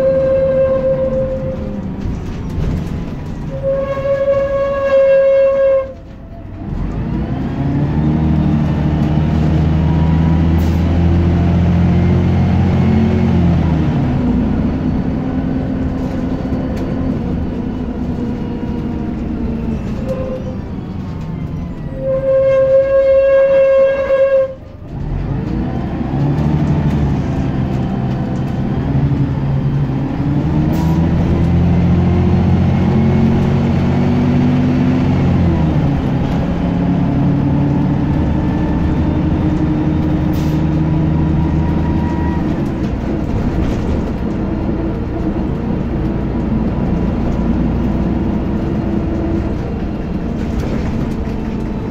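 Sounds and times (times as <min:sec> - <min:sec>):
bus diesel engine accelerating: 0:00.0 - 0:51.9.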